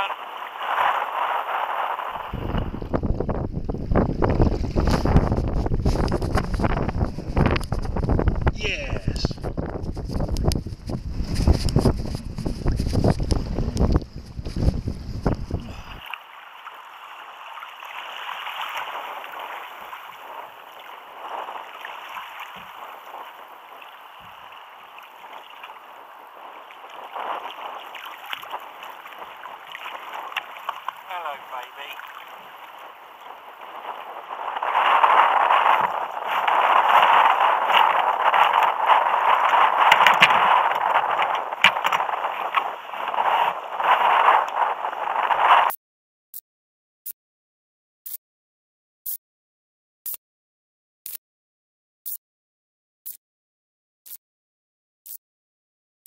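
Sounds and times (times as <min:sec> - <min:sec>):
water splashing against kayak hull: 0:00.0 - 0:45.7
wind: 0:00.0 - 0:45.8.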